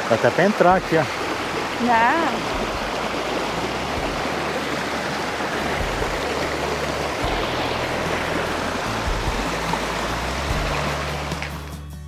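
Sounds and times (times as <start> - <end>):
stream water rushing: 0.0 - 11.8.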